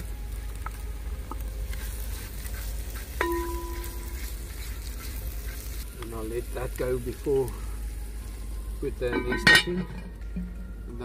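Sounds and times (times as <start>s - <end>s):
vegetables sizzling in a pot: 0.0s - 10.9s.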